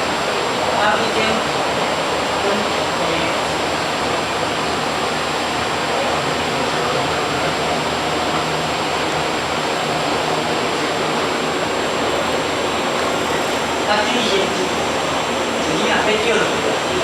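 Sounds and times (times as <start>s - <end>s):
faint high whine: 0.0s - 17.0s
loud rushing noise: 0.0s - 17.0s.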